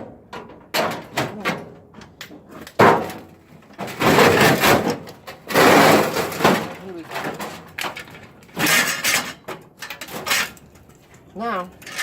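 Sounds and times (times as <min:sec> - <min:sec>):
scrap parts and tools clattering: 0:00.3 - 0:12.0.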